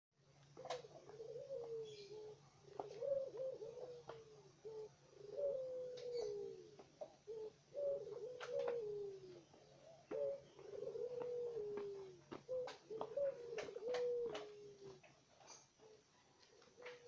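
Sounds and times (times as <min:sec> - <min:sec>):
dove cooing: 0:00.5 - 0:17.0.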